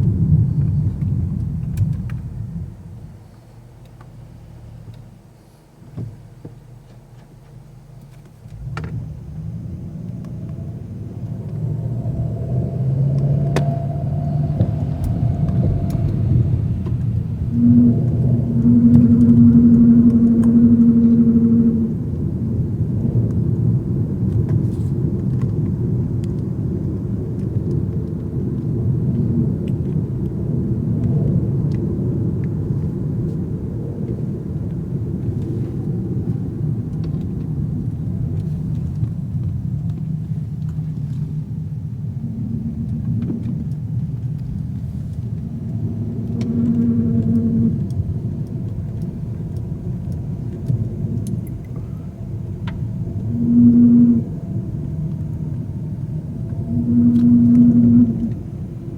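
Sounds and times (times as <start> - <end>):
car engine rumble: 0.0 - 58.9
road noise: 0.0 - 58.9
humming drone: 7.6 - 58.9.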